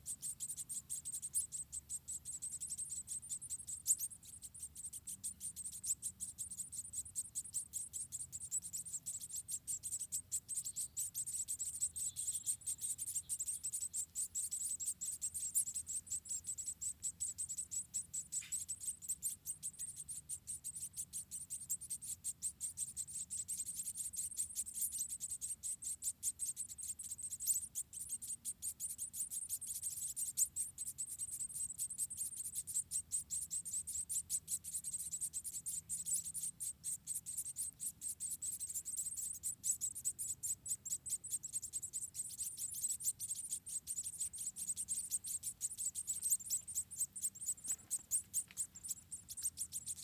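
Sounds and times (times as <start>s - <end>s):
insects chirring: 0.0s - 50.0s.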